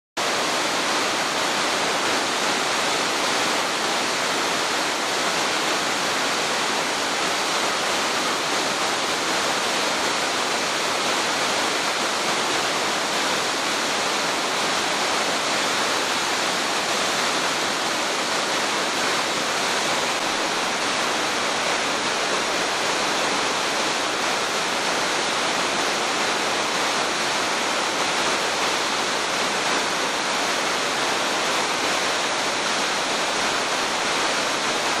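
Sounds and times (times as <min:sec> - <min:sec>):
waterfall rushing: 0:00.2 - 0:35.0.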